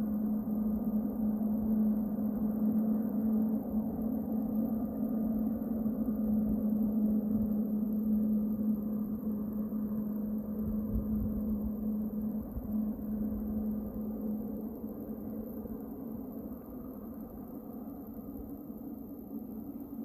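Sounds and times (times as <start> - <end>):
distant jet engines droning: 0.0 - 20.0.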